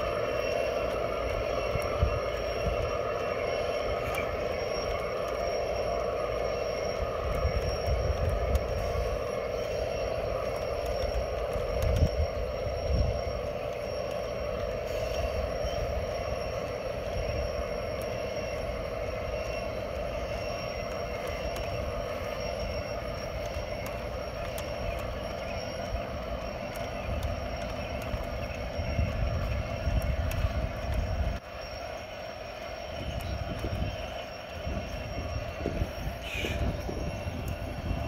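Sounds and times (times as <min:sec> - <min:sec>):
model train wheels rumbling on rails: 0:00.0 - 0:38.0.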